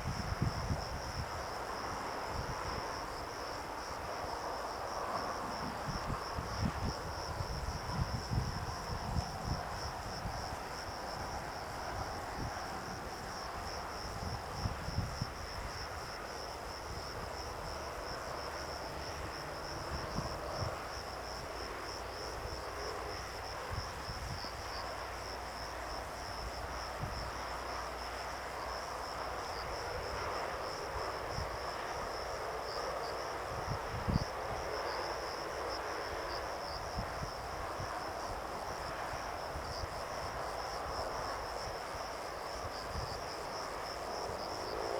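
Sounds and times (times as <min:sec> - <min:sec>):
wind buffeting microphone: 0:00.0 - 0:24.9, 0:33.1 - 0:35.7, 0:36.3 - 0:44.9.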